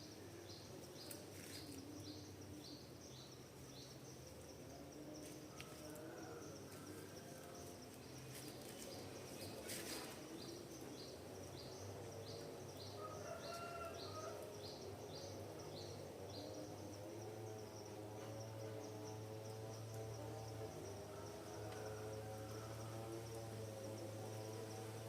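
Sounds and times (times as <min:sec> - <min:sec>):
insect buzz: 0:00.0 - 0:25.0.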